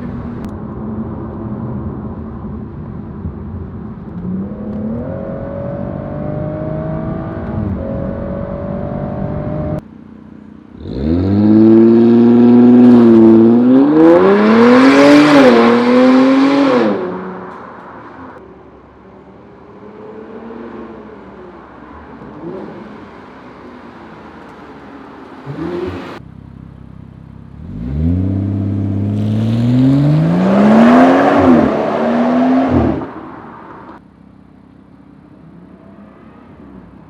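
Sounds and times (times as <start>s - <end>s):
car exhaust accelerating: 0.0s - 18.4s, 25.3s - 37.0s.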